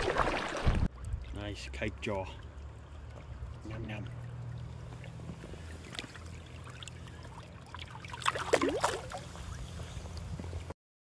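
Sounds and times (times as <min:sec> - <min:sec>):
water splashing and swirling: 0:00.0 - 0:10.7.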